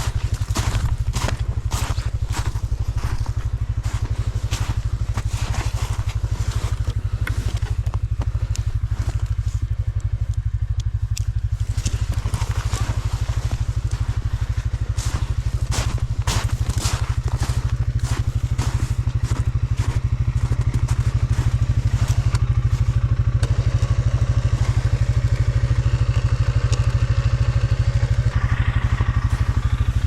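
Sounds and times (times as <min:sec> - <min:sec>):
atv engine idling: 0:00.0 - 0:30.0.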